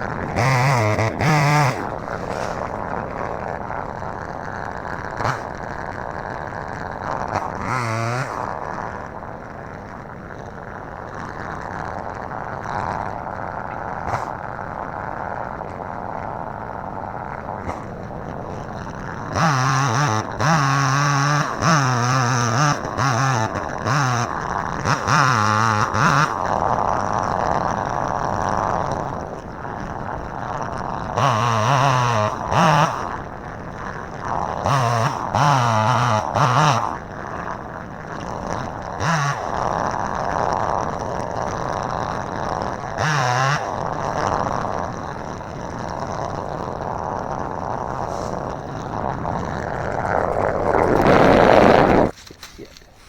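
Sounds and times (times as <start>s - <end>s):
chainsaw cutting into tree: 0.0s - 53.0s.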